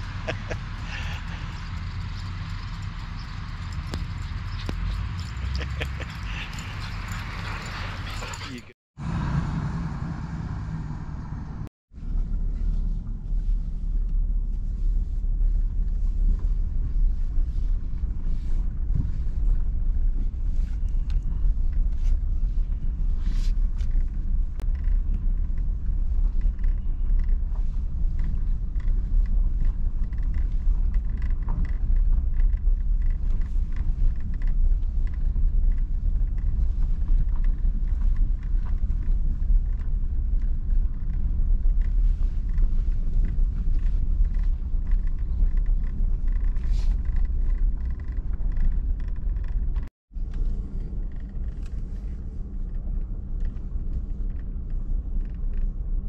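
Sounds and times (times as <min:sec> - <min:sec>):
gravel clicking under tyres: 0:00.0 - 0:08.7, 0:12.0 - 0:56.0
low rumble of vehicle driving: 0:00.0 - 0:56.0.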